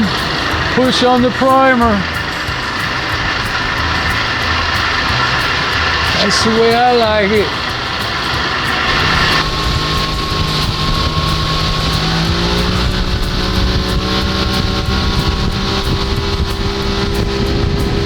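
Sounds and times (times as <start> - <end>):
outboard motor running: 0.0 - 18.0
rushing water: 0.0 - 18.0.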